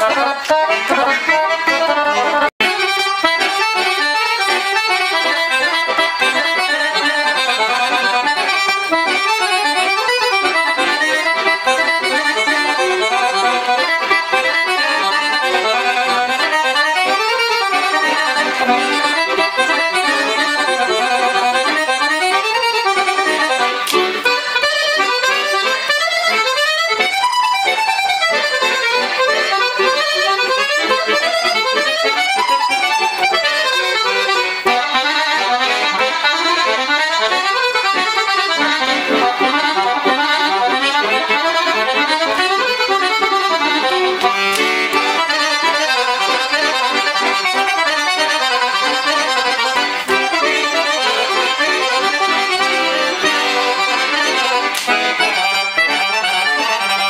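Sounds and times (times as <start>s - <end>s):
accordion playing fast melody: 0.0s - 57.0s.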